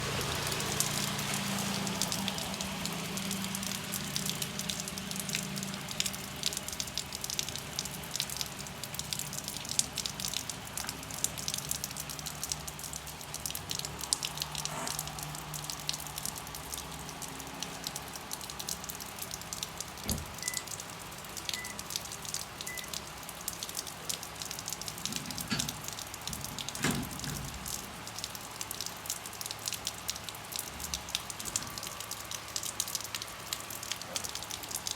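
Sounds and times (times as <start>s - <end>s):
rain drops tapping on surface: 0.0s - 34.9s.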